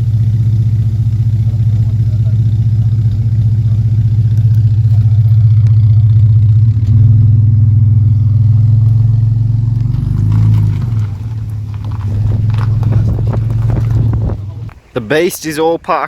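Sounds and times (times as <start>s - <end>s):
car engine lumpy idle: 0.0s - 15.1s.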